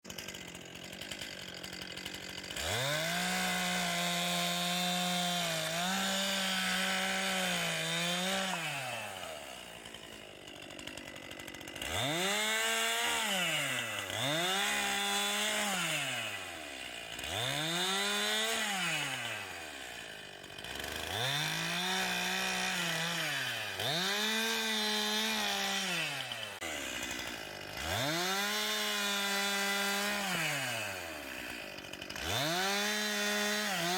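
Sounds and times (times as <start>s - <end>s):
chainsaw revving: 0.0s - 33.9s.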